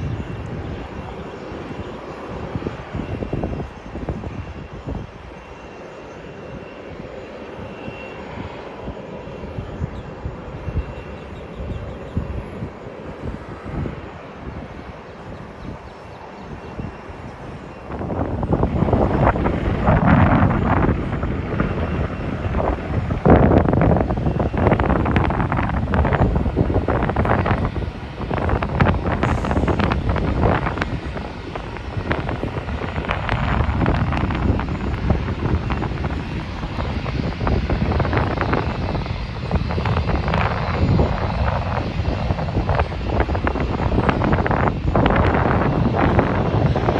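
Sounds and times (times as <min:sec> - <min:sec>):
jet engine noise: 0:00.0 - 0:46.9
wind buffeting microphone: 0:00.0 - 0:46.9.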